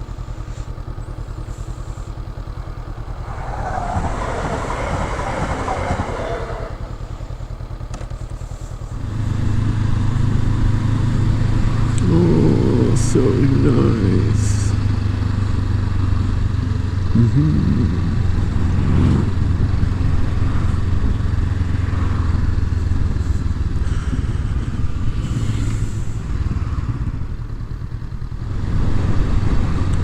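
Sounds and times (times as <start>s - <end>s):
motorcycle engine drone: 0.0s - 30.0s
wind and road noise: 0.0s - 30.0s.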